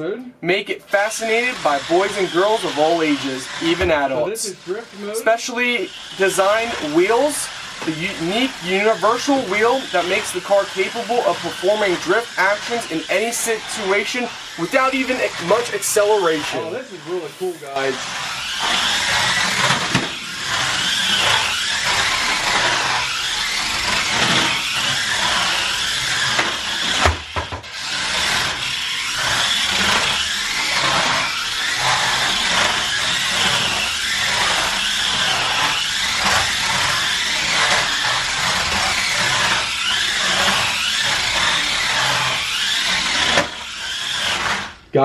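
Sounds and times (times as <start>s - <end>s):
toy car electric motors whirring: 0.8s - 45.0s.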